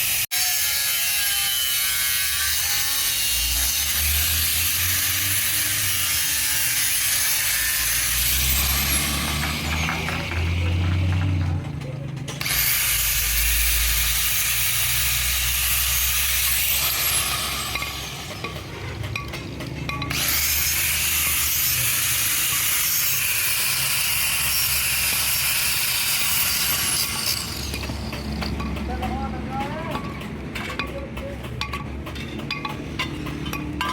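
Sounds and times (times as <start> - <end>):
handheld power tool running: 0.0 - 11.3, 12.4 - 28.6.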